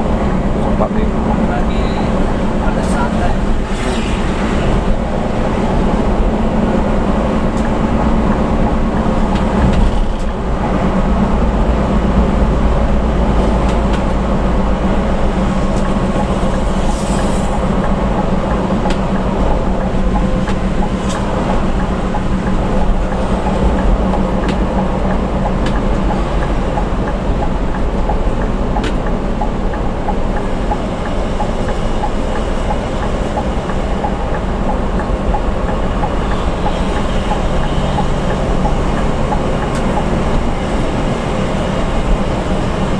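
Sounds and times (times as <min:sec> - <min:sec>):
road noise: 0:00.0 - 0:42.9
vehicle engine drone: 0:00.0 - 0:42.9.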